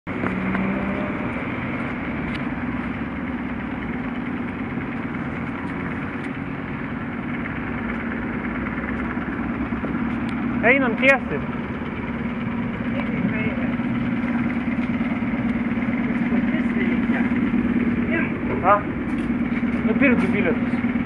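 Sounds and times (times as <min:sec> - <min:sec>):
electric train hum: 0:00.1 - 0:21.0
train rolling noise: 0:00.1 - 0:21.0.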